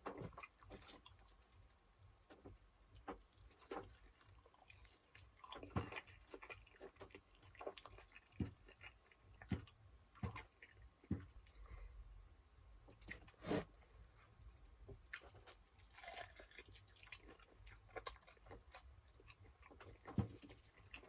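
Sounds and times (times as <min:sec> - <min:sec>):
wet chewing mouth sounds: 0:00.1 - 0:11.9, 0:13.4 - 0:21.0.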